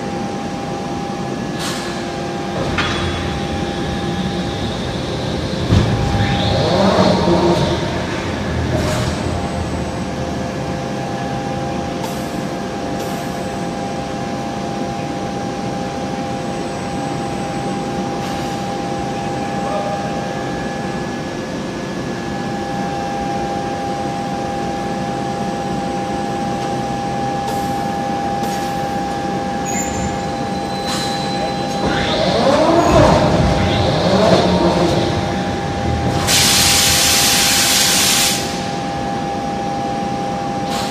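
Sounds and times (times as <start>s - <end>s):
machinery hum: 0.0s - 40.9s.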